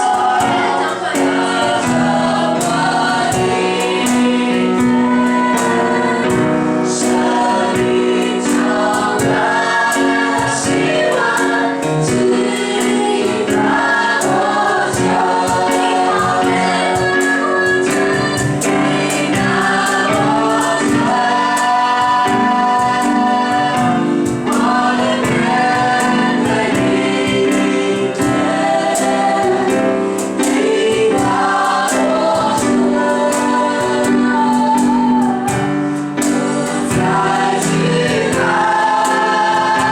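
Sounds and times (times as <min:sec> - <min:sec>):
group singing worship song: 0:00.0 - 0:39.9
instrumental accompaniment with beat: 0:00.0 - 0:39.9.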